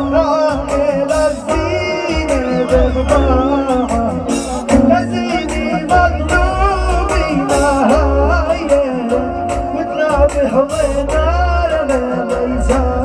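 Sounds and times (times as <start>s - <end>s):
electronic accompaniment: 0.0s - 13.0s
man singing: 0.0s - 13.0s
pulsing bass: 0.0s - 13.0s
steady beat: 0.0s - 13.0s.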